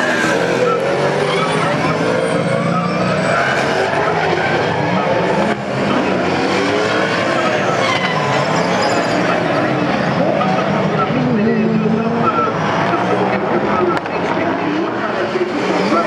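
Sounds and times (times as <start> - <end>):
racing engines running hard: 0.0 - 16.0.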